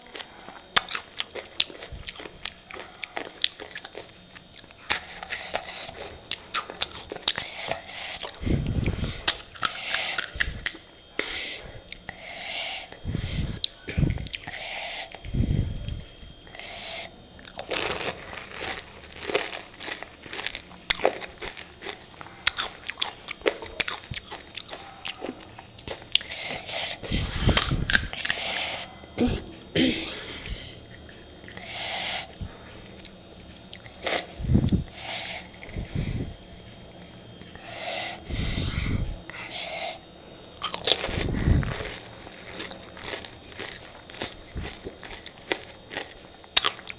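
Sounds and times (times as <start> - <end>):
chewing crunchy snack: 0.0 - 37.8, 39.3 - 46.9.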